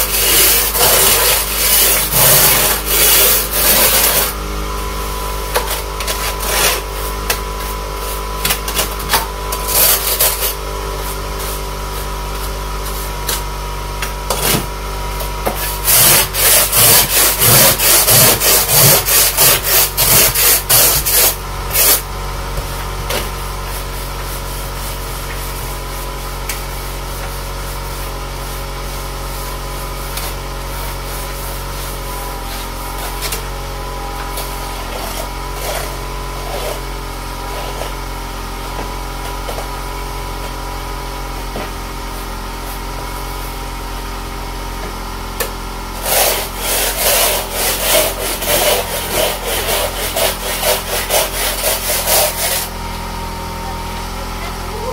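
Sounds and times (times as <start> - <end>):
ice scraper scraping car window: 0.0 - 4.4, 5.4 - 28.7, 29.6 - 39.9, 44.8 - 54.9
steady hum: 0.0 - 37.9, 40.3 - 54.9.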